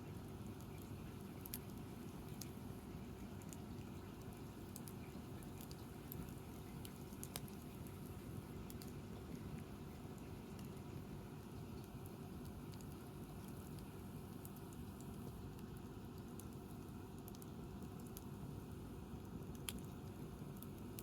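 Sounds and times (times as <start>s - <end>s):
campfire crackling and popping: 0.4s - 2.6s, 4.2s - 10.8s, 11.4s - 21.0s.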